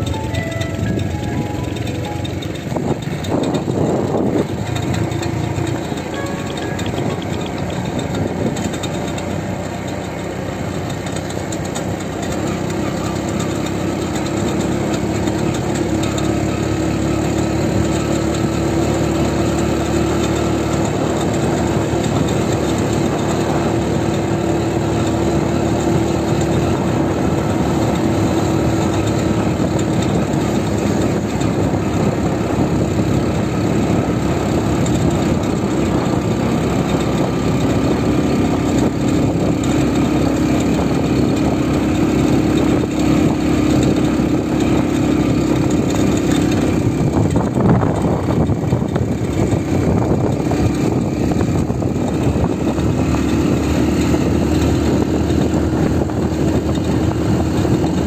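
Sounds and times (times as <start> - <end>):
road noise: 0.0 - 58.0
vehicle engine droning: 0.0 - 58.0.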